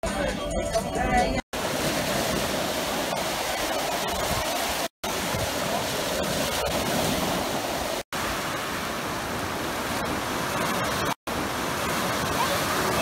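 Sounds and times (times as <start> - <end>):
small waves breaking on beach: 1.5 - 13.0.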